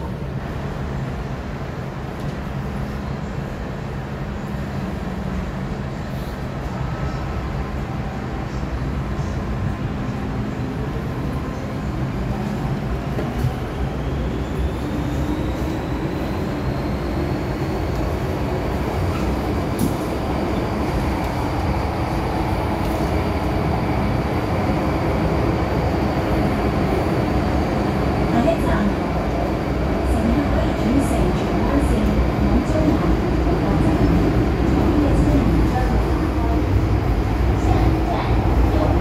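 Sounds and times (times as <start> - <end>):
train wheels and motors rumbling: 0.0 - 39.0.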